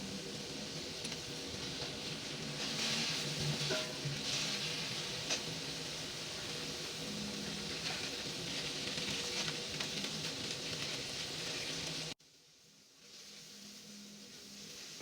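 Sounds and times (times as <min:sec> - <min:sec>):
food sizzling in hot oil: 0:00.0 - 0:12.2.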